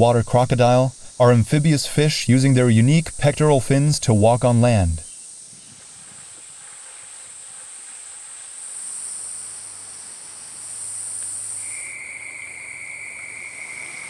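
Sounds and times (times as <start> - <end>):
insects buzzing high-pitched: 0.0 - 14.0
lower insect whine: 0.0 - 14.0.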